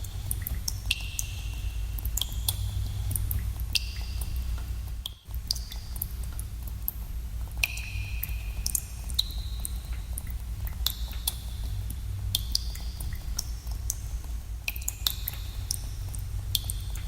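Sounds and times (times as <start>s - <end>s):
steady low rumble: 0.0s - 17.0s
water drops plinking in a cave: 0.0s - 17.0s.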